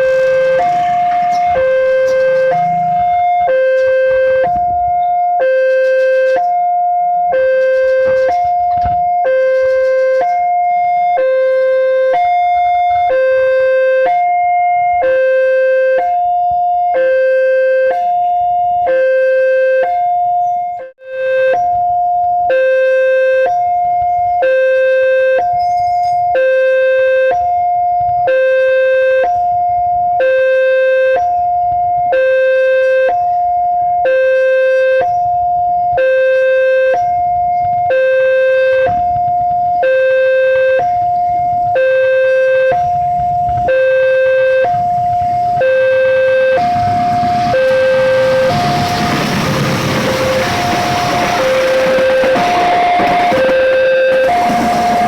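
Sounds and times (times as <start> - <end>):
level crossing two-tone alarm: 0.0 - 55.0.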